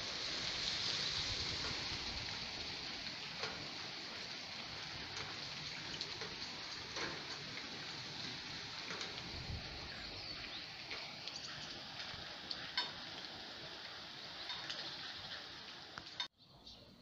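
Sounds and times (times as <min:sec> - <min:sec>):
steady rain hissing: 0:00.0 - 0:16.3.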